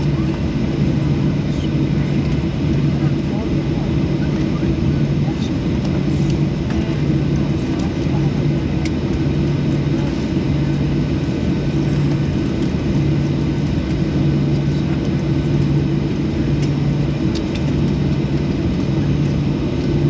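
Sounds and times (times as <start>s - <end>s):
aircraft cabin drone: 0.0s - 20.0s.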